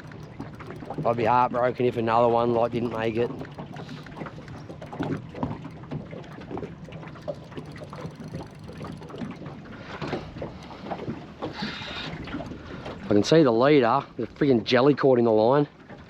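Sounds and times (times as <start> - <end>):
water slapping against hull: 0.0 - 14.5.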